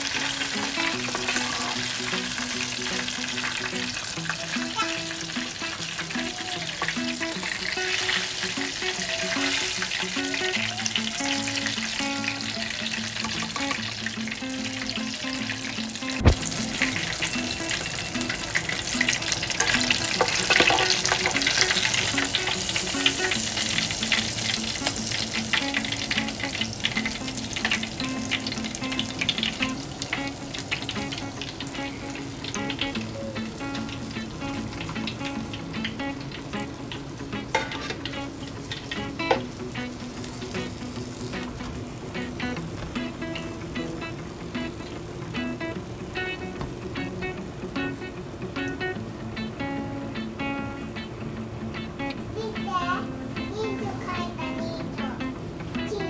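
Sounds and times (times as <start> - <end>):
food deep-frying in oil: 0.0 - 45.5.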